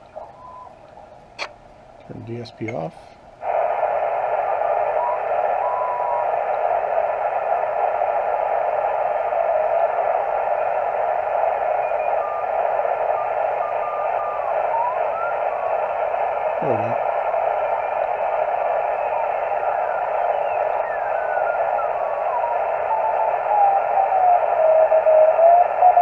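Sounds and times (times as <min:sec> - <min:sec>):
radio band noise: 0:00.0 - 0:26.0.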